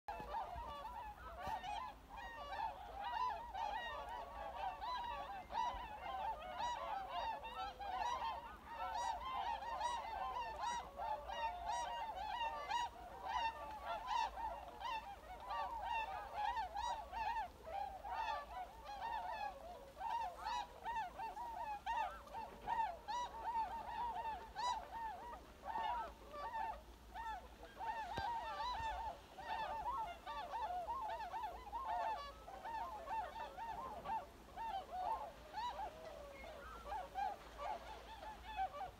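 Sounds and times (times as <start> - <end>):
flock of swans calling: 0.1 - 38.9.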